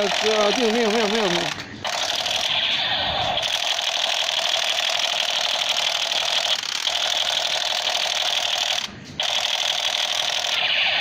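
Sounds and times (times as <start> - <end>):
rapid mechanical buzzing: 0.0 - 11.0.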